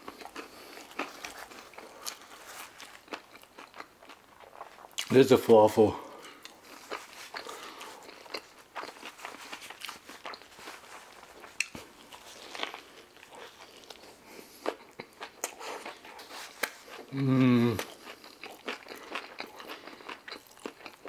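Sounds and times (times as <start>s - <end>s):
crunchy chewing: 0.0s - 5.1s, 6.2s - 21.0s.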